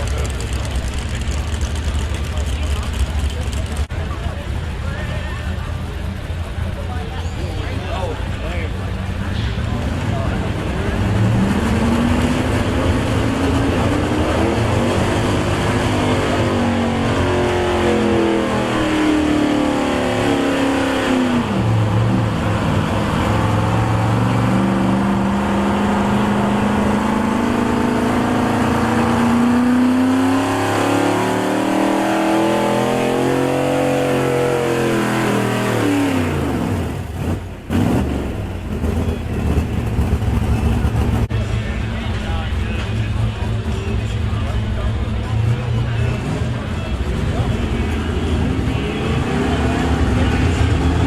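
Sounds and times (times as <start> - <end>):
truck engine at high revs: 0.0 - 51.0.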